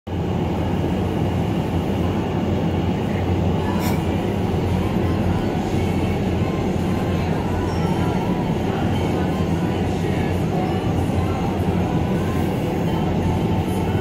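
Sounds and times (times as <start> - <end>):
deep rush of air from fans: 0.1 - 14.0.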